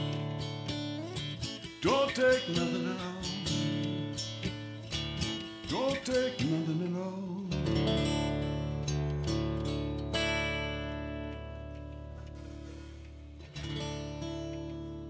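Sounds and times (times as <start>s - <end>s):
acoustic guitar strummed and picked: 0.0s - 15.0s.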